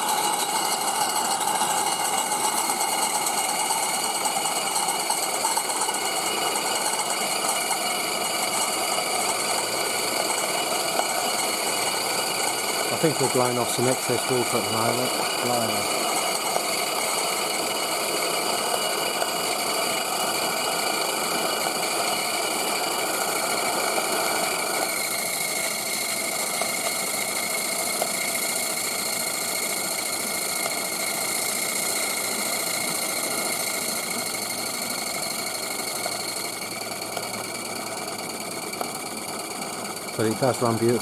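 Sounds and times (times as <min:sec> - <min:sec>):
rapid beat of steam engine: 0:00.0 - 0:41.0.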